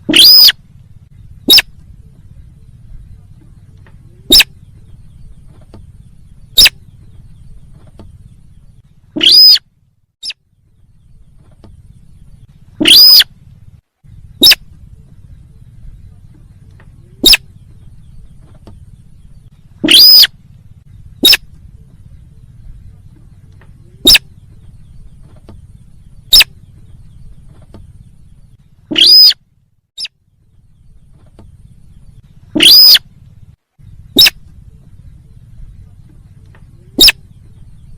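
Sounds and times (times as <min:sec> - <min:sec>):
sharp bird calls: 0:00.0 - 0:01.9, 0:02.6 - 0:15.8, 0:16.8 - 0:37.9
faint low hum: 0:00.0 - 0:37.9.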